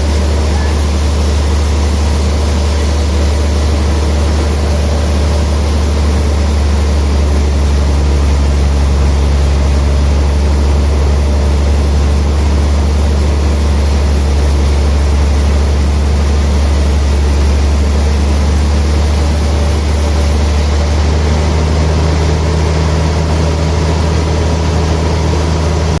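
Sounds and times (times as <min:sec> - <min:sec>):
sawmill machinery drone: 0:00.0 - 0:26.0.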